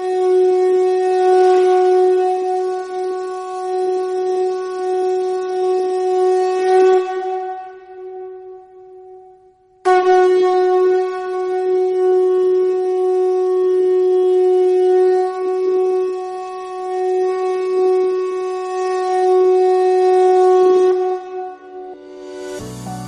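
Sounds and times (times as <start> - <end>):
conch shell blown: 0.0 - 23.0.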